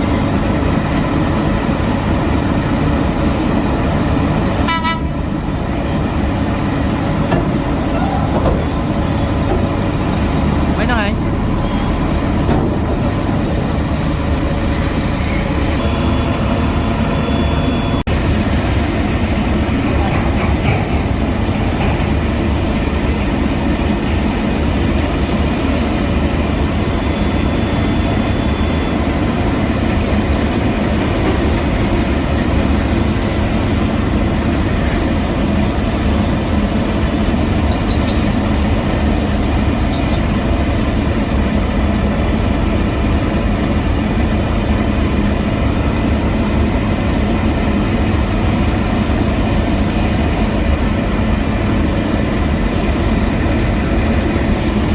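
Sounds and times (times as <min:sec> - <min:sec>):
diesel machinery engine drone: 0:00.0 - 0:54.9.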